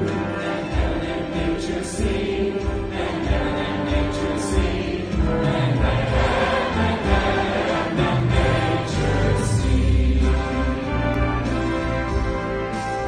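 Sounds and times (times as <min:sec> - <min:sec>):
congregation and choir singing: 0:00.0 - 0:13.0
instrumental accompaniment: 0:00.0 - 0:13.0.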